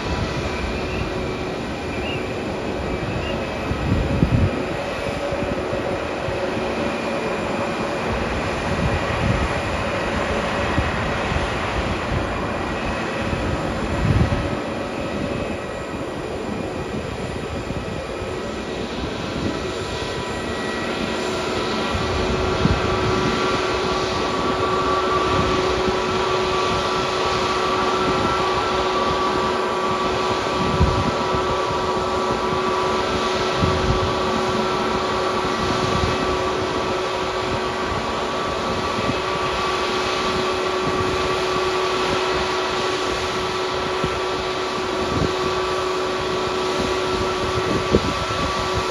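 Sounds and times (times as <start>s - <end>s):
jet engines idling: 0.0s - 48.9s.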